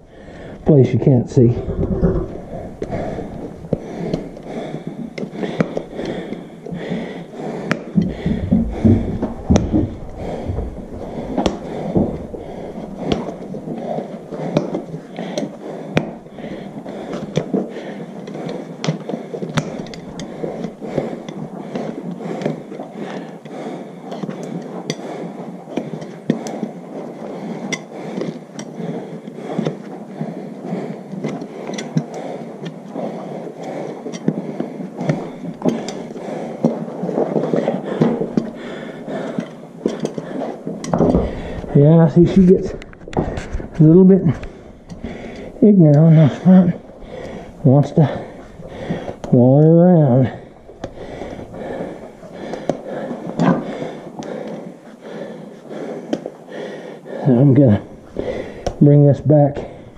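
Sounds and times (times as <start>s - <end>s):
hand tools scraping hoof: 0.0s - 23.5s, 24.1s - 56.4s, 57.2s - 59.9s.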